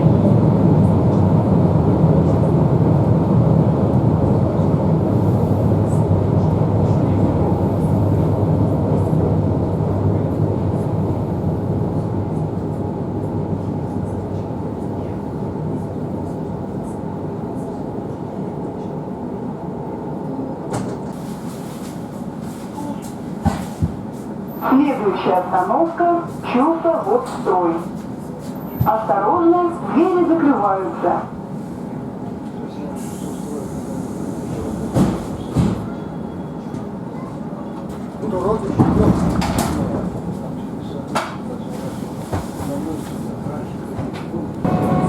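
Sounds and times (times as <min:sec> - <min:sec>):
electric train running rumble: 0:00.0 - 0:22.4, 0:23.3 - 0:45.0.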